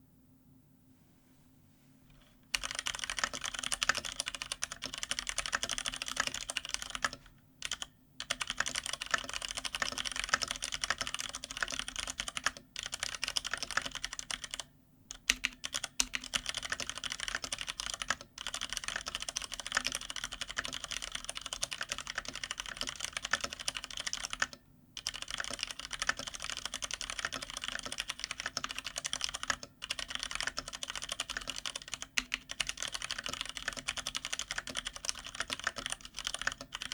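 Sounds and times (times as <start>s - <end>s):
typing on a mechanical keyboard: 2.5s - 36.9s.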